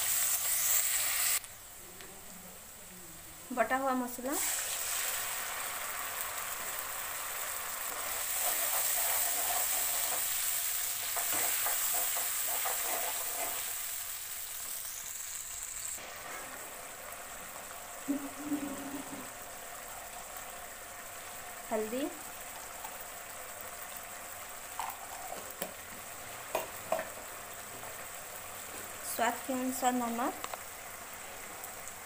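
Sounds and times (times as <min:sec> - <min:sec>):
spice paste sizzling in oil: 0:00.0 - 0:01.8, 0:03.4 - 0:32.0.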